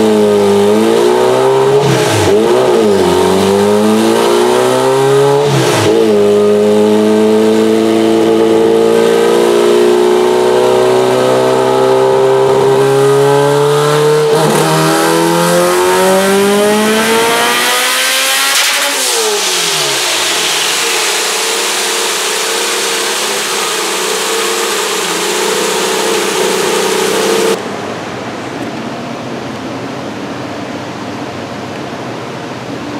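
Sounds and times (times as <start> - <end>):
engine revving on dyno: 0.0 - 27.6.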